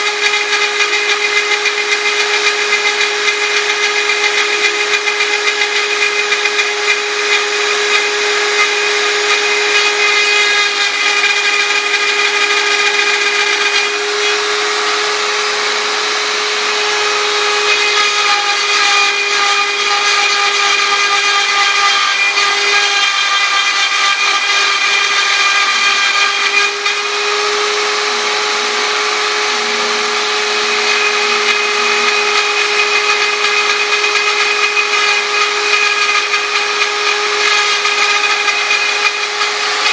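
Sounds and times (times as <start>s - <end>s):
bit cutting rasp: 0.0s - 39.9s
router spindle whining: 0.0s - 39.9s.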